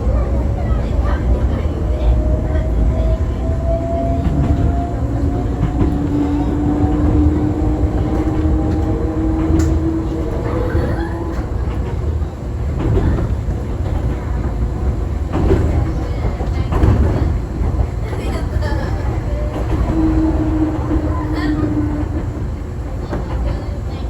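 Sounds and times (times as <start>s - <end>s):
rail clicks: 0.0s - 24.0s
train rumbling: 0.0s - 24.0s.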